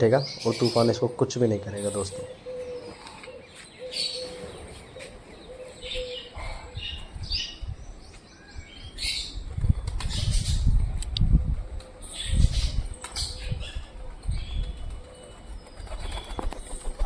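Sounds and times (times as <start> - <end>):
birds chirping: 0.0 - 11.0, 11.7 - 17.0.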